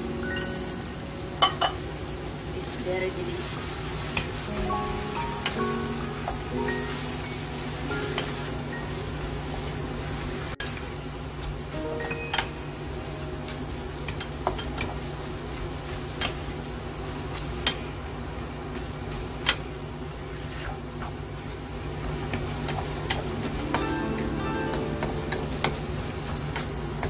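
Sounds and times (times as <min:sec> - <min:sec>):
food sizzling in frying pan: 0:00.0 - 0:27.0.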